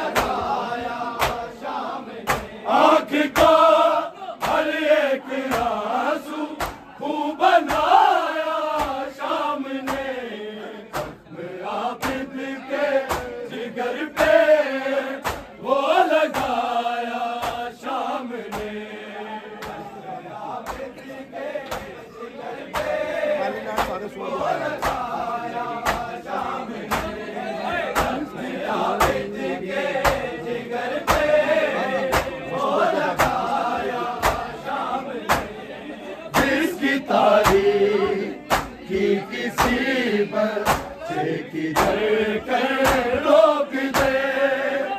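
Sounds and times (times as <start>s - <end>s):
men's chorus chanting: 0.0s - 44.9s.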